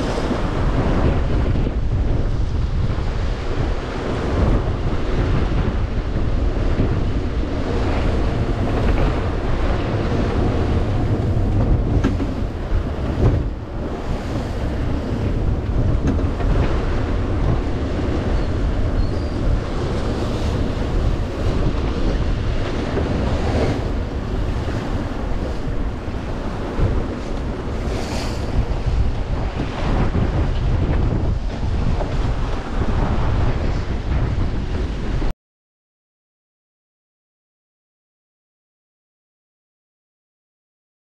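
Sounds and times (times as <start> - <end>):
waves rushing along hull: 0.0 - 35.3
wind blowing on microphone: 0.0 - 35.3.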